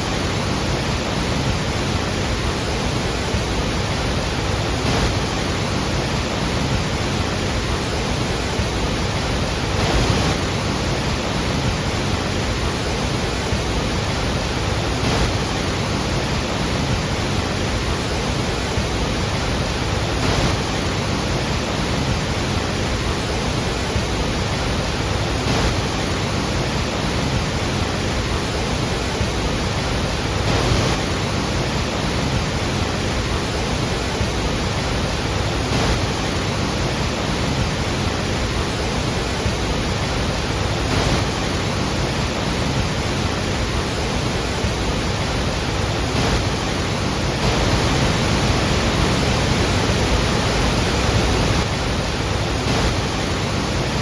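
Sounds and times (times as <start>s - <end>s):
large waterfall roaring: 0.0s - 54.0s.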